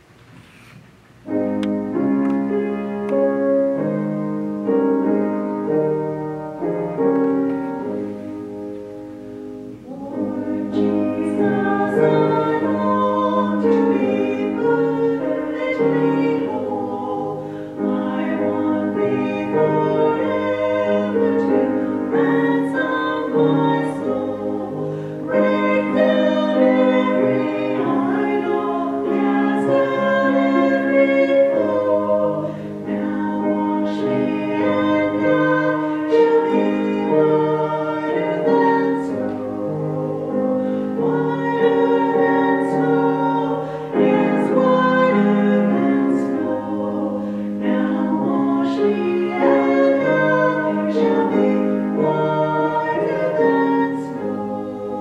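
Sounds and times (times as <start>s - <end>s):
keyboard chords: 1.2s - 55.0s
two women singing: 9.8s - 55.0s.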